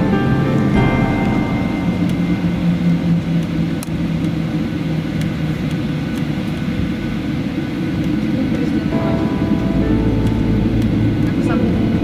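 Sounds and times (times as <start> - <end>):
airplane cabin drone: 0.0 - 12.0.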